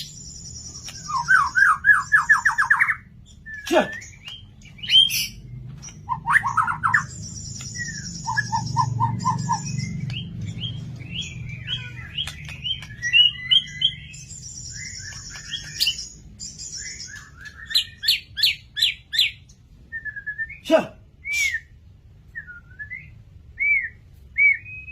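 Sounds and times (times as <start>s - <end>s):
bird singing: 0.0s - 24.9s.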